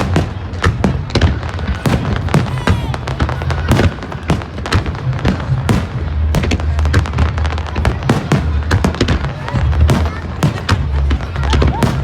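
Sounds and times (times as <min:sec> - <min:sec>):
fireworks cracking and banging: 0:00.0 - 0:12.0.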